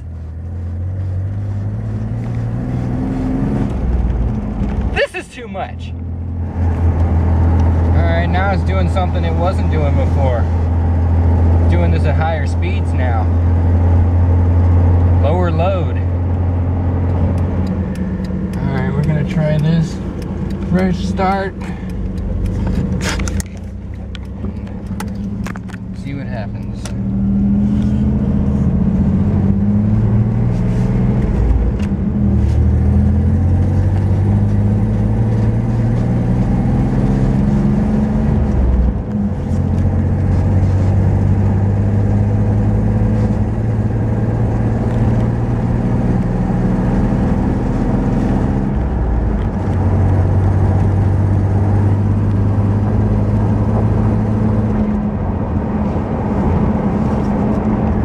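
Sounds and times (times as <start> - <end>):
pickup truck engine droning: 0.0 - 58.0.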